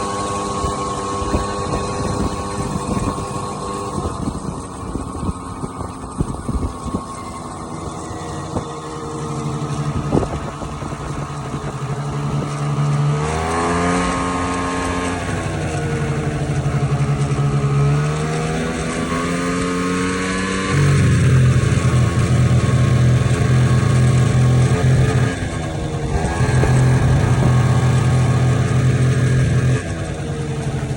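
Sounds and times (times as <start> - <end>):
scooter engine riding: 0.0 - 30.9.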